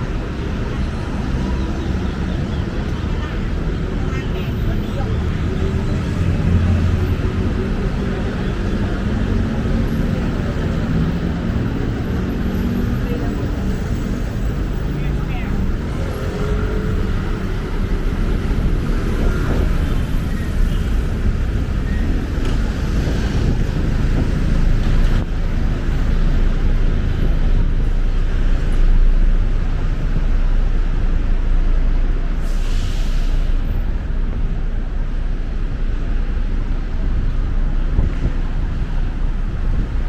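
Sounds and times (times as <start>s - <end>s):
rumble of passing vehicles: 0.0s - 40.0s.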